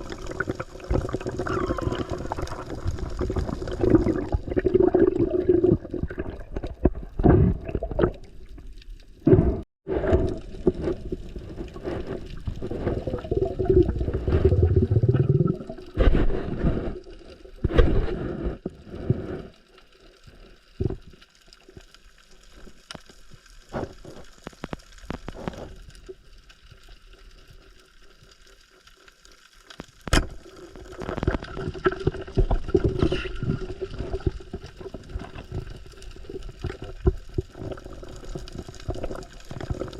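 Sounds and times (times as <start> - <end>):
sea water sloshing and gurgling: 0.0 - 29.5, 30.1 - 39.9.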